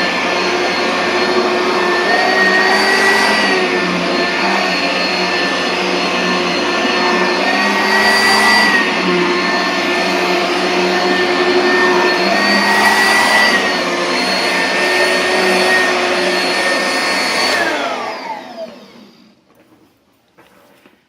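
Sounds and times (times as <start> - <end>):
vacuum cleaner running: 0.0 - 20.9.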